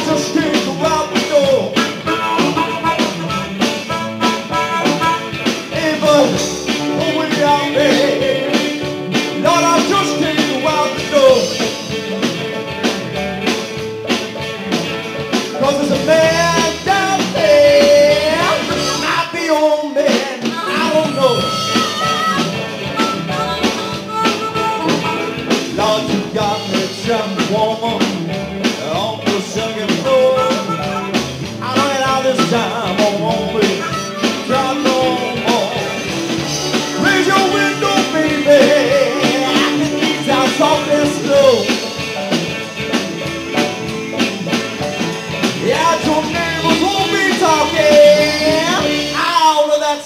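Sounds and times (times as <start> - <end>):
electric guitars: 0.0 - 49.8
bass guitar: 0.0 - 50.0
drum kit: 0.0 - 50.0.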